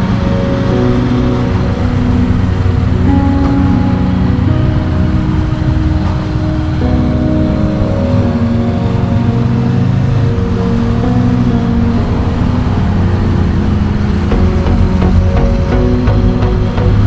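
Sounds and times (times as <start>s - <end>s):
background music of held notes: 0.0s - 17.0s.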